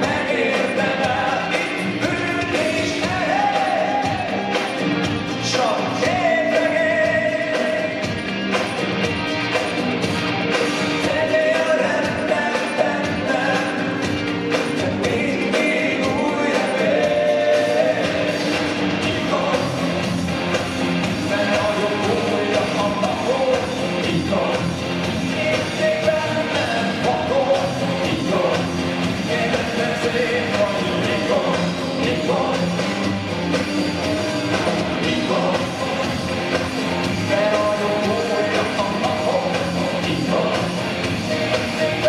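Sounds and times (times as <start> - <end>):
lead vocal singing: 0.0 - 8.8, 10.5 - 42.0
live rock band playing: 0.0 - 42.0.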